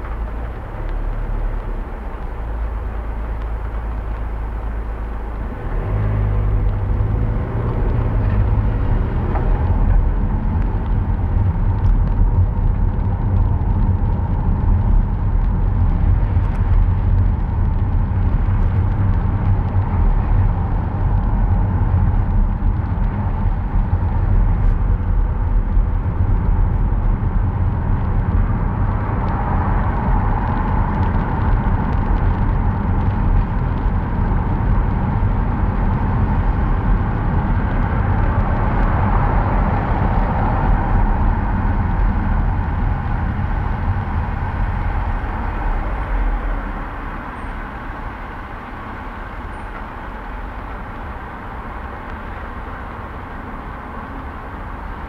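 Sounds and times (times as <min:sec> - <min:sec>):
car road rumble with tyre hiss: 0:00.0 - 0:55.0.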